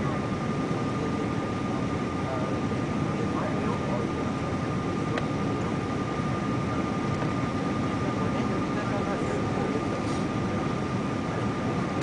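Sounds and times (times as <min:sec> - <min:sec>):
engine and airflow rush: 0:00.0 - 0:12.0.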